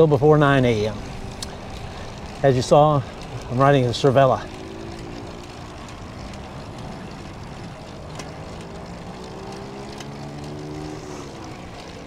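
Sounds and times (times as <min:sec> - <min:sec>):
bicycle tyre noise: 0:00.0 - 0:12.0
engine drone: 0:00.0 - 0:12.0.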